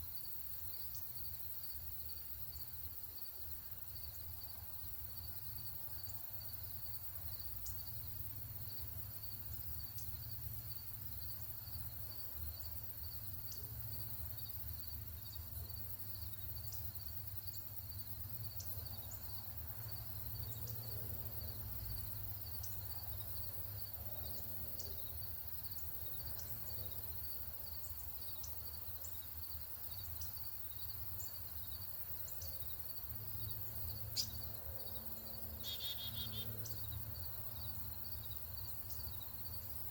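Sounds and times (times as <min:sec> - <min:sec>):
rhythmic insect chirping: 0:00.0 - 0:39.9.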